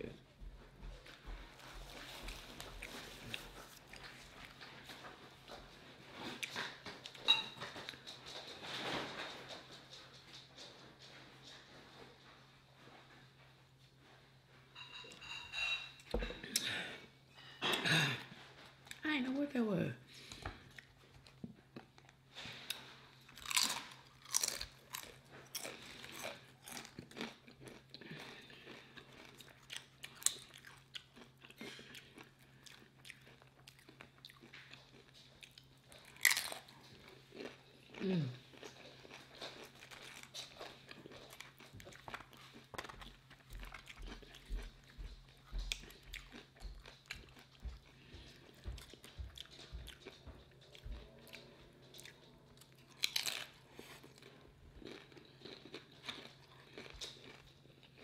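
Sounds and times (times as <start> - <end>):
chewing tortilla chips: 1.0 - 14.2, 20.1 - 58.0.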